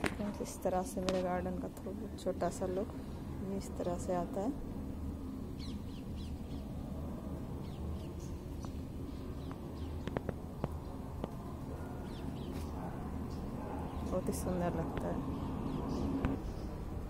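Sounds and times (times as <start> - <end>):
birds chirping: 0.0 - 17.0
low background hum: 0.0 - 17.0.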